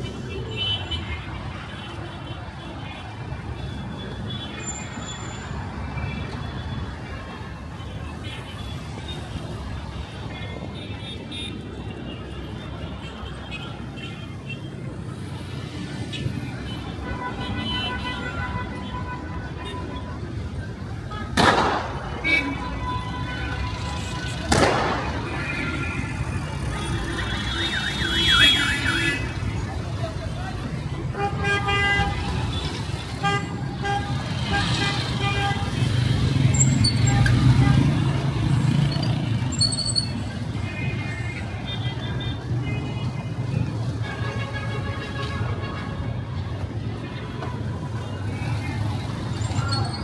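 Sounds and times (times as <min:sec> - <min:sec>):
city traffic rumble: 0:00.0 - 0:50.0.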